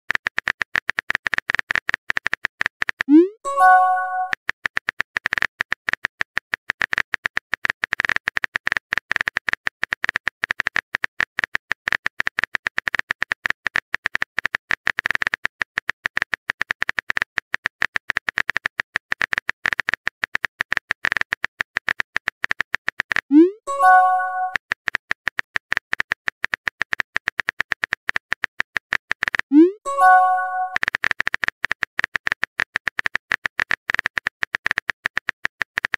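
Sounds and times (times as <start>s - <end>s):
keyboard clicks: 0.2s - 8.4s, 12.8s - 24.6s, 25.4s - 35.9s.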